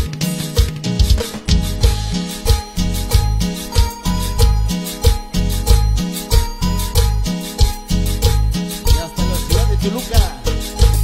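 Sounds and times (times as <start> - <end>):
drum kit dance rhythm: 0.0 - 11.0
sustained keyboard notes: 0.0 - 11.0
bass pulse: 1.0 - 11.0.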